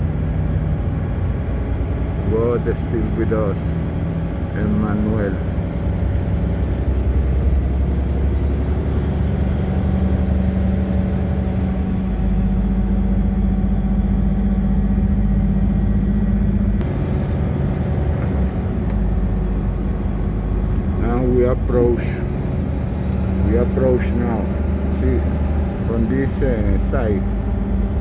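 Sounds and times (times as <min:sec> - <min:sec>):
bus engine humming: 0:00.0 - 0:28.0
road noise: 0:00.0 - 0:28.0.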